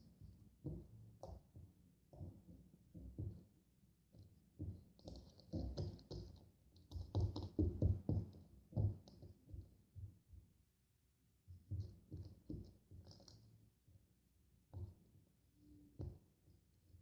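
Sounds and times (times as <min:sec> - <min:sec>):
soft taps and knocks: 0:00.2 - 0:10.5, 0:11.5 - 0:13.6, 0:14.7 - 0:16.7.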